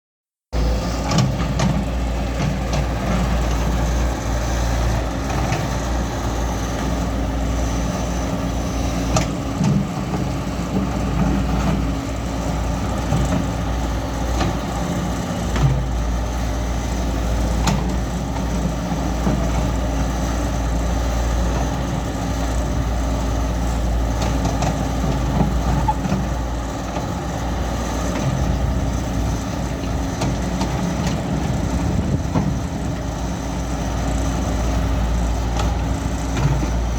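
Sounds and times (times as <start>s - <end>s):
excavator diesel engine rumbling: 0.6s - 36.9s.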